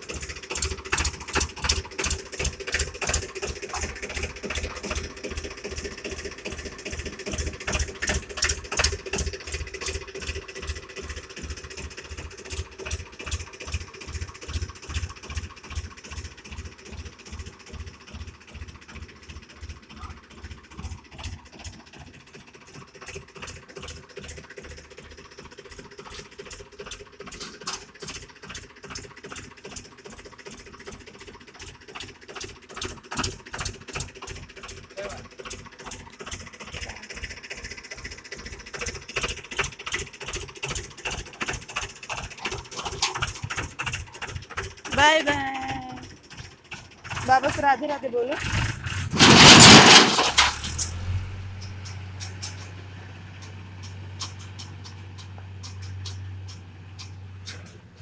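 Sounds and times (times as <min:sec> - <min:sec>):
tractor engine thumping: 0:00.0 - 0:58.0.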